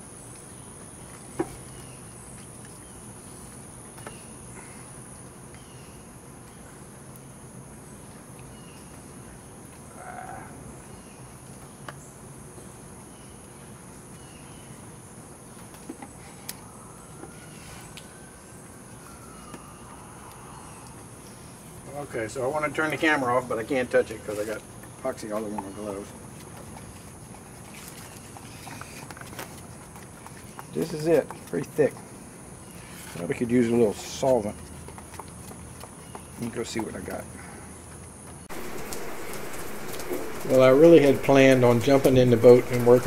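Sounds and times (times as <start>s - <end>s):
crickets and insects chirring: 0.0s - 34.6s, 36.4s - 43.0s.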